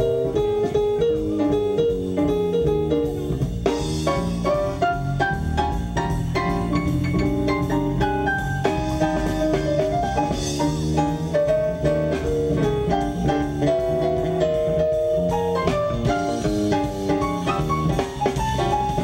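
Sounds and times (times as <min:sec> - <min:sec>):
bass: 0:00.0 - 0:19.0
drums: 0:00.0 - 0:19.0
electronic keyboard melody: 0:00.0 - 0:19.0.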